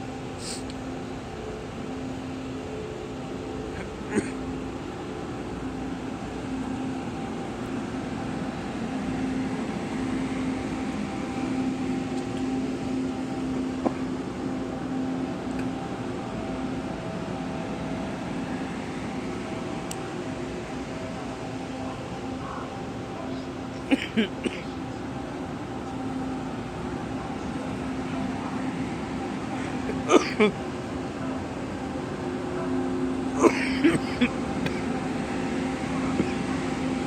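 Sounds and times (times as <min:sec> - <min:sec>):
electric train hum: 0:00.0 - 0:37.0.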